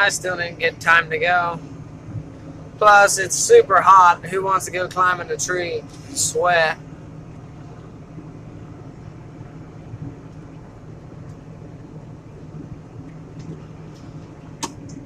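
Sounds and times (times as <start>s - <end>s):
tractor diesel engine hum: 0.0s - 15.0s.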